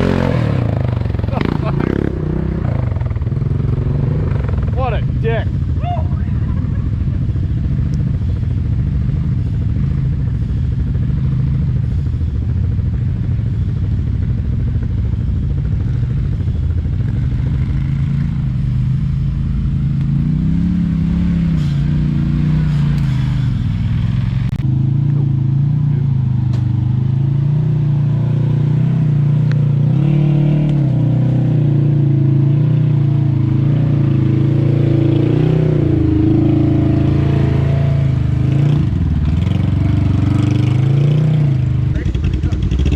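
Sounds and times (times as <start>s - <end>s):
off-road vehicle engine revving: 0.0s - 13.6s, 15.6s - 42.9s.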